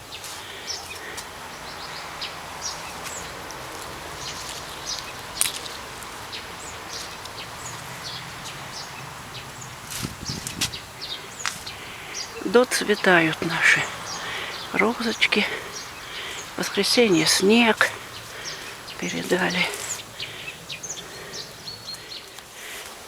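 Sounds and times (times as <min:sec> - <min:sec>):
songbirds chirping: 0:00.0 - 0:23.0
wind in trees: 0:00.0 - 0:23.0.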